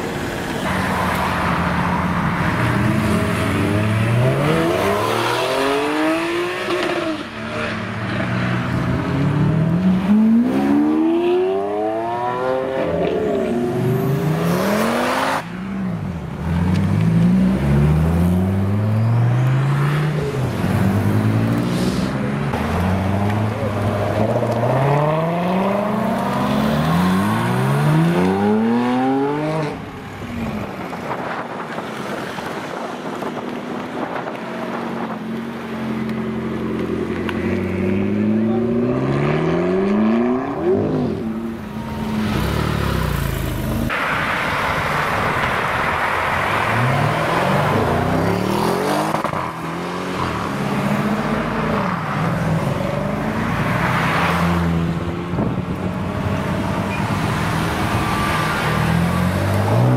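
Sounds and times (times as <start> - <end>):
sports cars accelerating hard: 0.6 - 59.9.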